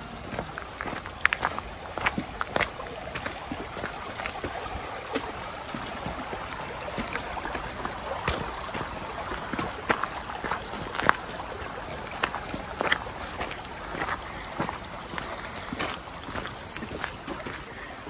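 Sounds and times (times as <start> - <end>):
flowing creek water: 0.0 - 18.0
footsteps on trail: 0.0 - 18.0.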